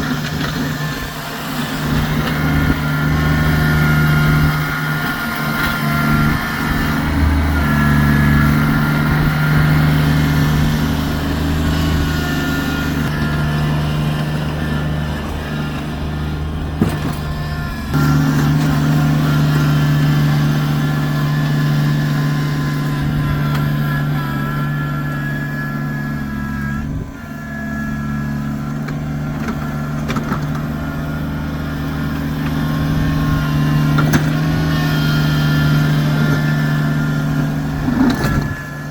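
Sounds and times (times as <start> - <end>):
tractor engine under load: 0.0 - 38.9.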